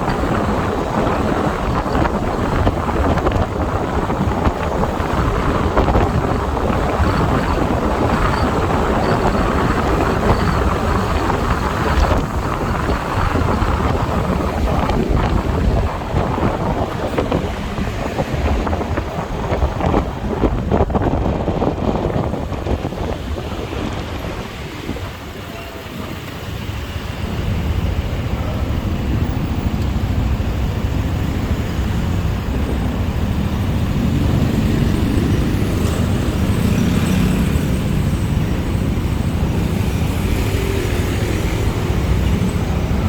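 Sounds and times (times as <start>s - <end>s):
motorbike engine drone: 0.0s - 43.0s
road traffic: 0.0s - 43.0s
wind buffeting microphone: 0.0s - 43.0s.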